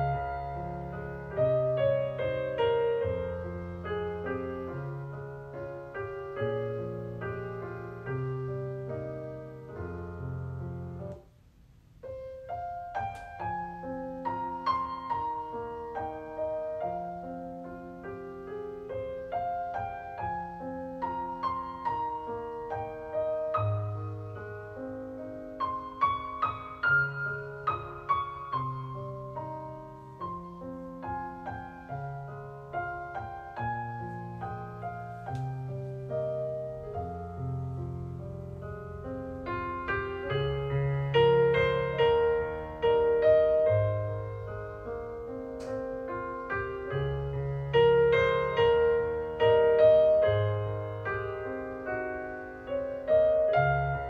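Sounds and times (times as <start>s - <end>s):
gentle solo piano: 0.0s - 54.0s.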